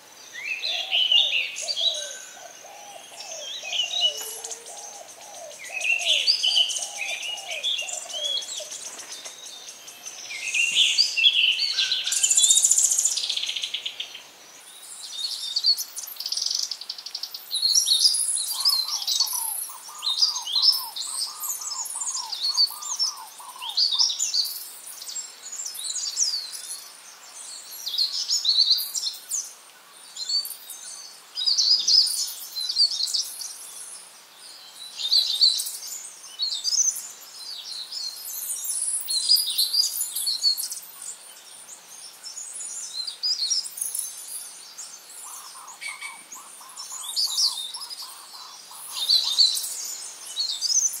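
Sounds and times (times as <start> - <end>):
songbirds chirping and singing: 0.0 - 51.0.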